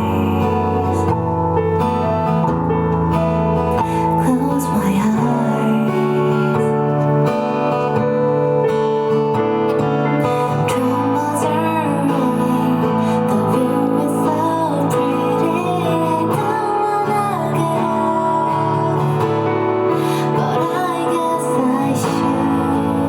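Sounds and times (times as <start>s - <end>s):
person singing: 0.0s - 2.6s, 3.7s - 23.0s
strummed acoustic guitar: 0.0s - 23.0s.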